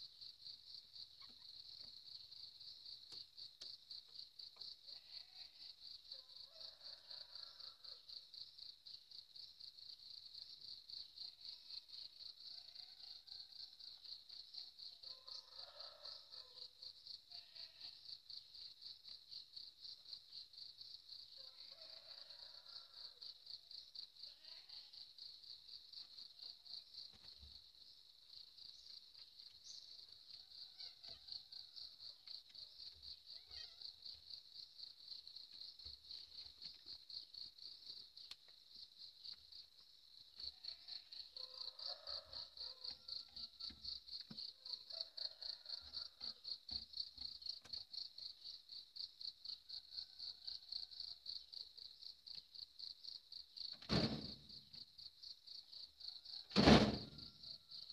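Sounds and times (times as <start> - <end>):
insect chirping trill: 0.0 - 57.9.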